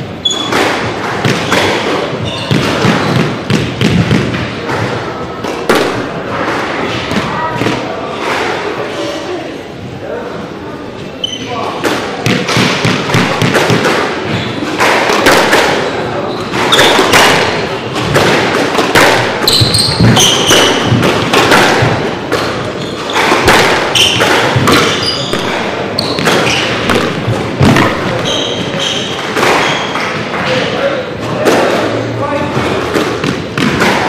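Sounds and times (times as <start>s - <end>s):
murmur of voices: 0.0s - 34.0s
squash balls knocking in echoing hall: 0.0s - 34.0s.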